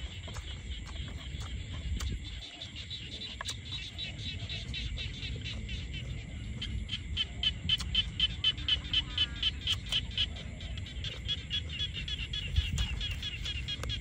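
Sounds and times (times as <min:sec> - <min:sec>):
continuous high drone: 0:00.0 - 0:14.0
rhythmic animal calls: 0:00.0 - 0:14.0.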